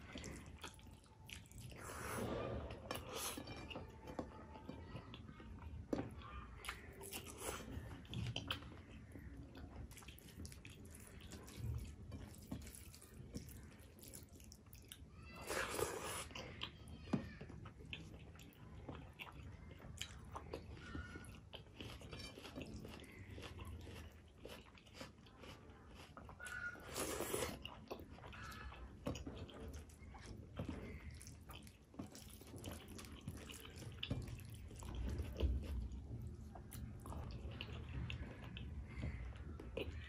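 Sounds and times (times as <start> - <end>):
person chewing: 0.0 - 3.8, 6.2 - 16.8, 17.6 - 40.0.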